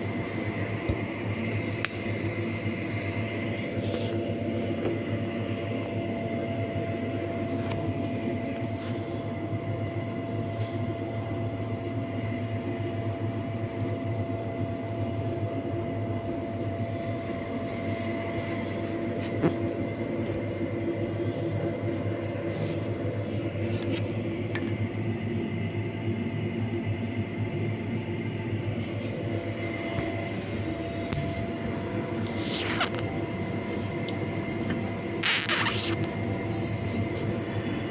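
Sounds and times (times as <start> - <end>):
air conditioning unit humming: 0.0 - 37.9.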